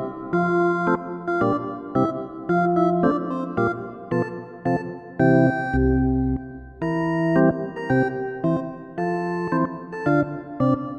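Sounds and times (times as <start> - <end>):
keyboard melody: 0.0 - 10.9.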